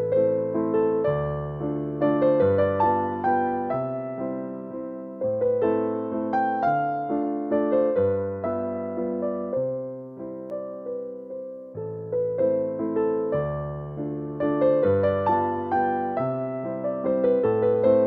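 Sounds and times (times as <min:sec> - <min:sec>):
slow electric piano tune: 0:00.0 - 0:18.0.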